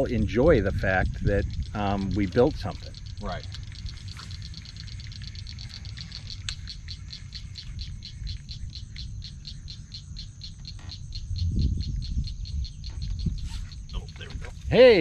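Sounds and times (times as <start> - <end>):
high-pitched animal chirping: 1.2 - 15.0.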